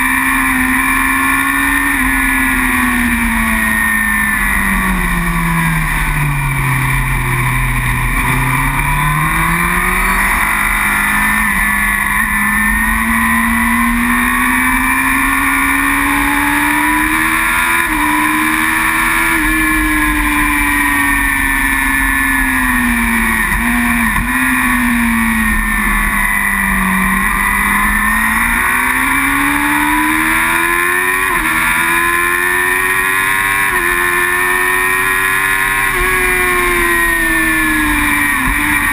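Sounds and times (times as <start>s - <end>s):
superbike engine revving: 0.0s - 38.9s.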